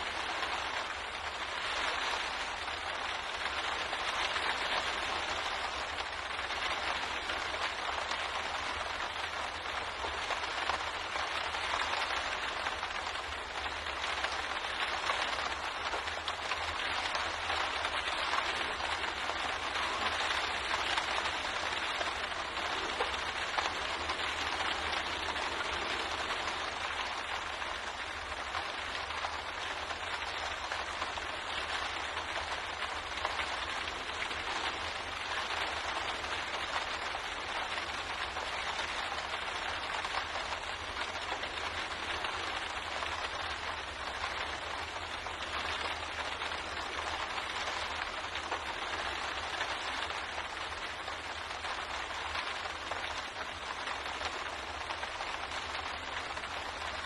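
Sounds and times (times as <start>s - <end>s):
rain pattering on a window: 0.0s - 57.0s.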